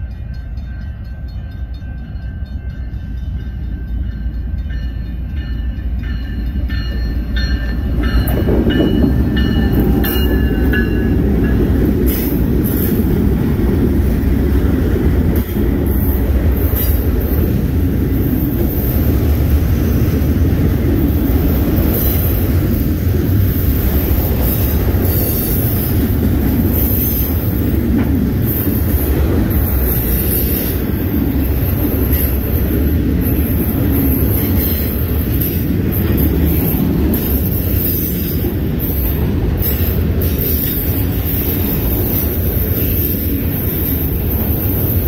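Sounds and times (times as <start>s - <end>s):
crossing bell ringing: 0.0s - 45.0s
freight cars rolling on rails: 0.0s - 45.0s.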